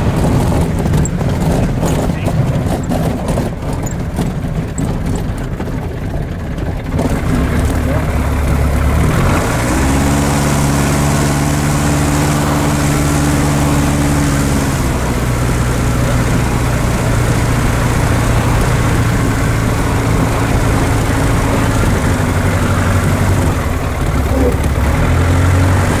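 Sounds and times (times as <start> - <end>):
propeller engine running: 0.0 - 26.0.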